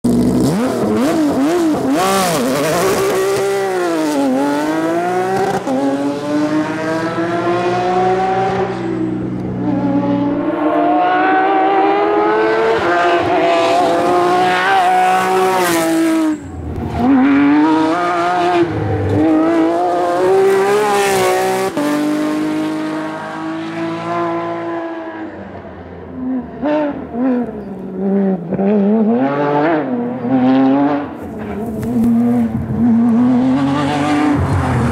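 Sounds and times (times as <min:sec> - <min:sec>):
rally car engine at full throttle: 0:00.0 - 0:34.9.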